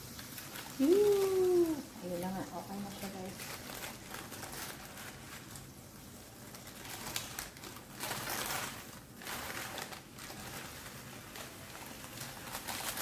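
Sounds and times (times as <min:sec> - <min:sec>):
baking paper crinkling: 0:00.0 - 0:13.0.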